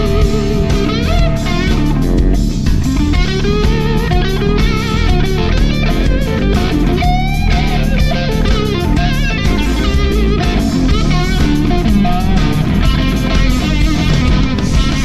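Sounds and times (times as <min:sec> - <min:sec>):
bass: 0:00.0 - 0:15.0
drums: 0:00.0 - 0:15.0
electric guitar lead bending notes: 0:00.0 - 0:15.0.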